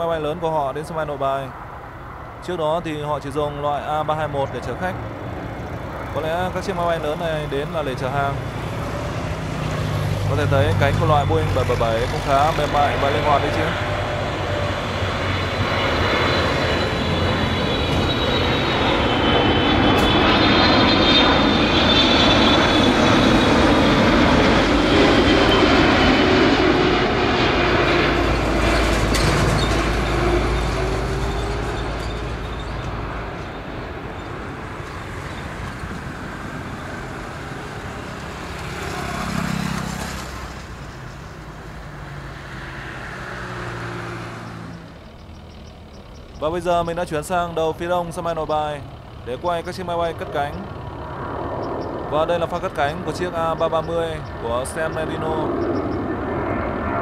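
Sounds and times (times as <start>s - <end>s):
jet rumble with fan whine: 0.0s - 43.4s, 44.0s - 57.0s
jet airliner passing overhead: 0.0s - 57.0s.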